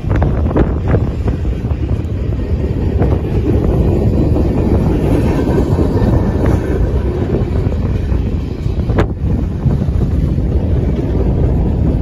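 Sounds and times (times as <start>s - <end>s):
freight train rolling past: 0.0s - 12.0s
steel wheels clattering on rails: 0.0s - 12.0s.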